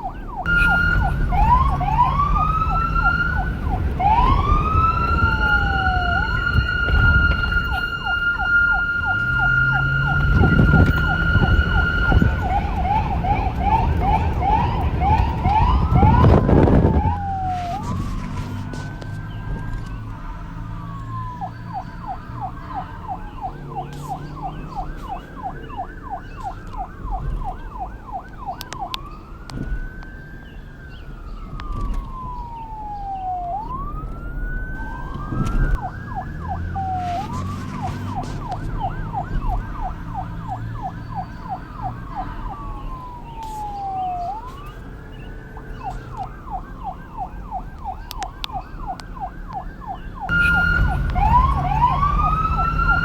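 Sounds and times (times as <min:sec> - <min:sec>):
siren wail: 0:00.0 - 0:53.0
siren yelp: 0:00.0 - 0:53.0.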